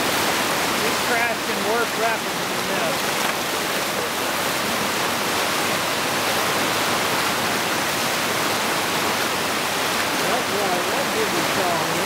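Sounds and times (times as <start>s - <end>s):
water rushing over boulders: 0.0s - 12.0s.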